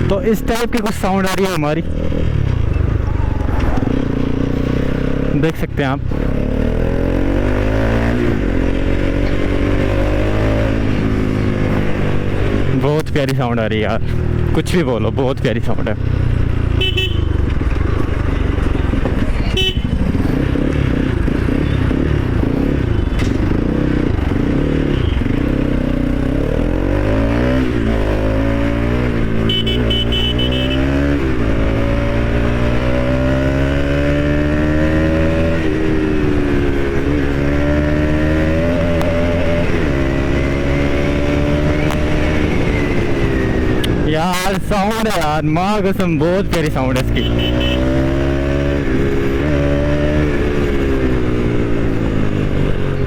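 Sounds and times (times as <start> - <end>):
motorcycle accelerating: 0.0 - 53.0.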